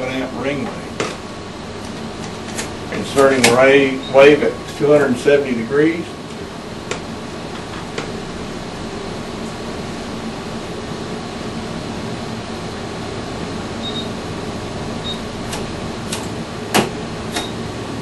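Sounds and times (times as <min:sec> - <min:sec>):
fan whir with low hum: 0:00.0 - 0:18.0.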